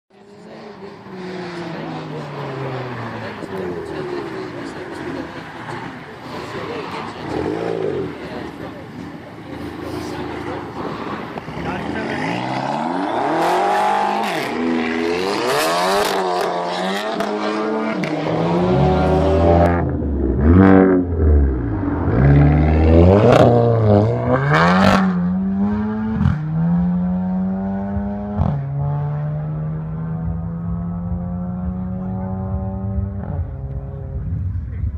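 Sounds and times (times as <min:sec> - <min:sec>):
car engine revving: 0:00.2 - 0:34.9.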